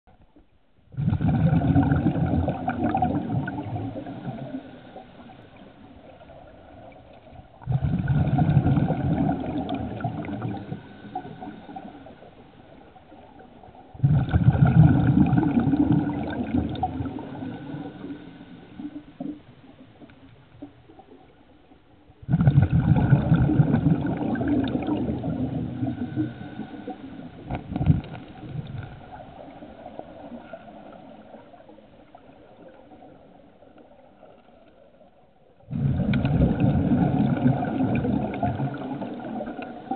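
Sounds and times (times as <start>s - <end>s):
underwater exhaust bubbles: 0.1s - 39.9s.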